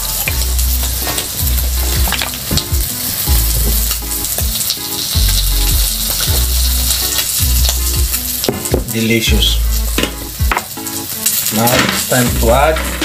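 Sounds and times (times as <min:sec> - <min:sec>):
background music with a beat: 0:00.0 - 0:13.0
food sizzling in a pan: 0:00.0 - 0:13.0.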